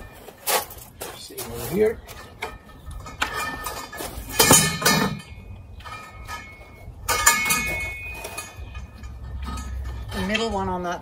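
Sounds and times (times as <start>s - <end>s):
metal tubes clinking and knocking: 0.0s - 11.0s.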